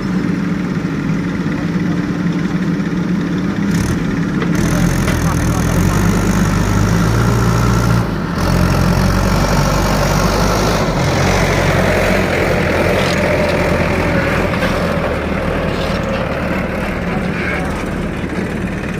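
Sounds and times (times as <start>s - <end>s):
heavy diesel engine running: 0.0s - 18.9s.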